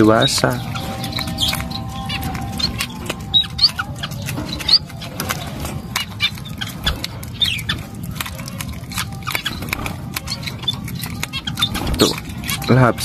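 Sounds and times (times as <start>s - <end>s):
otter crunching fish: 0.0s - 13.0s
otter squeaky chirps: 0.0s - 13.0s.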